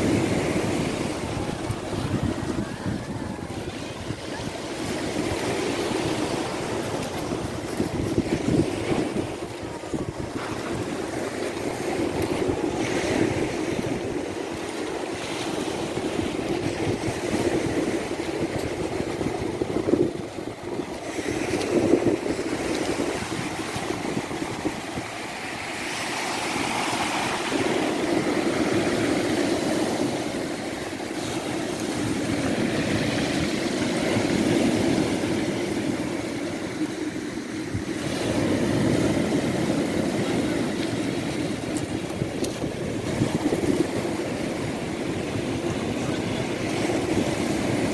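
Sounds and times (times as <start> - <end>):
river water rushing: 0.0 - 47.9
waves breaking on pebbles: 0.0 - 47.9.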